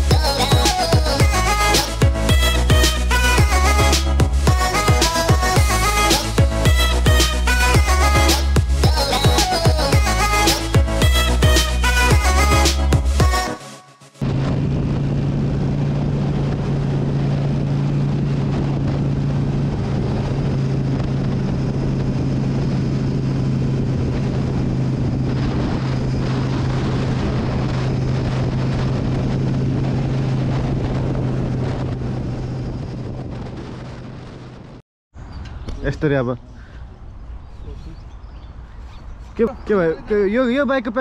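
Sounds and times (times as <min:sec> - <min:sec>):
wind noise on microphone: 0:00.0 - 0:13.6, 0:14.2 - 0:41.0.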